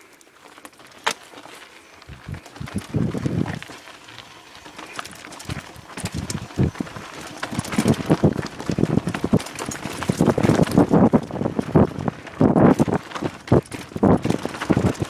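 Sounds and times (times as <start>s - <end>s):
mountain bike rattling: 0.0s - 15.0s
tyres crunching on gravel: 0.0s - 15.0s.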